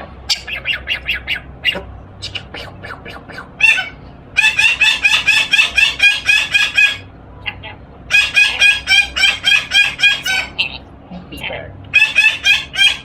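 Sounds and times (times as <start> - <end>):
parrot mimicking laughter: 0.3 - 13.0.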